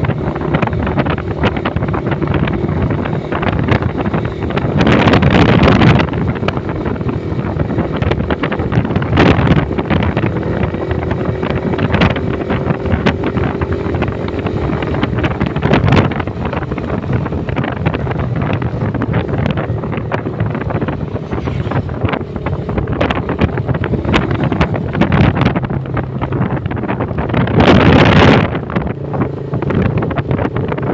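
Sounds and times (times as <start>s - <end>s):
motorcycle engine running: 0.0s - 30.9s
wind rushing over microphone: 0.0s - 30.9s.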